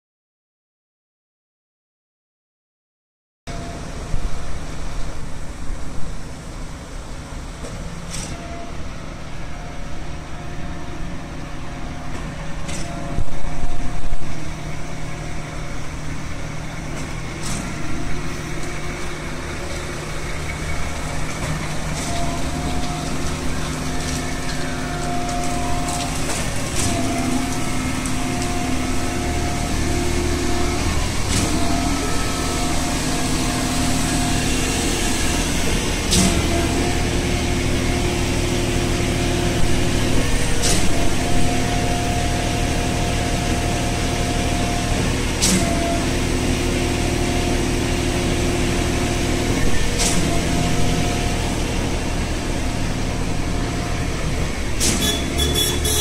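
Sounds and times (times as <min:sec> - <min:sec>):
diesel engines droning: 0:03.5 - 0:56.0
falling whine: 0:08.4 - 0:55.3.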